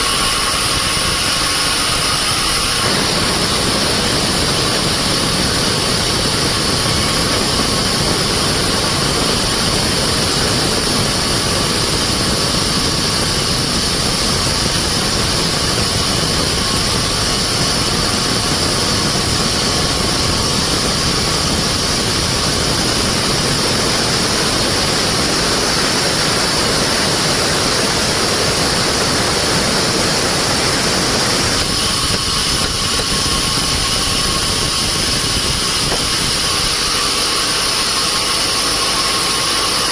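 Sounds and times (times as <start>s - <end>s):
engine-driven saw running: 0.0s - 39.9s.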